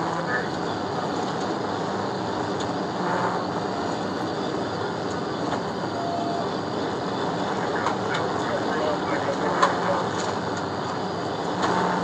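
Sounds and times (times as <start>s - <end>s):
car interior driving drone: 0.0s - 12.0s.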